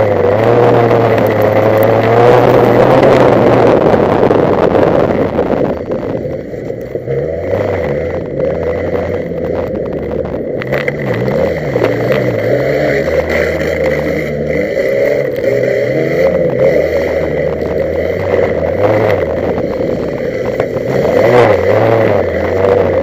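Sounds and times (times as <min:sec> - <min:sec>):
race car engine revving: 0:00.0 - 0:23.0
wind and tyre hiss: 0:00.0 - 0:23.0.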